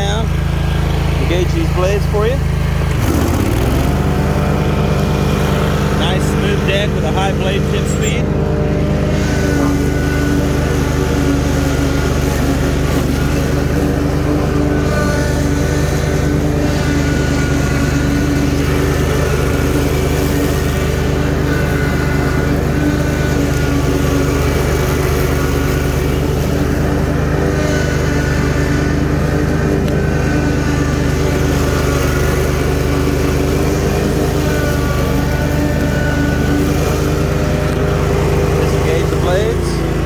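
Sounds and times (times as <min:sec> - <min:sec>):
mower blades spinning: 0:00.0 - 0:40.0
mower engine running: 0:00.0 - 0:40.0.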